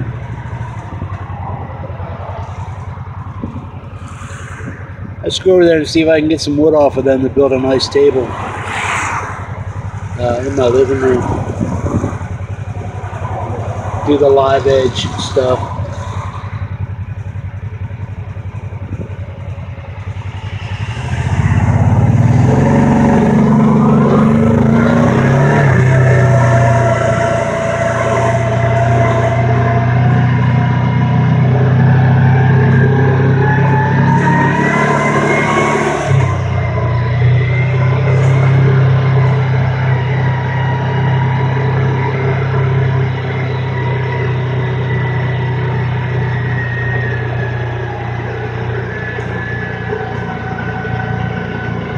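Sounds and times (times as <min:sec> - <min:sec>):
engine running: 0:00.0 - 0:51.9.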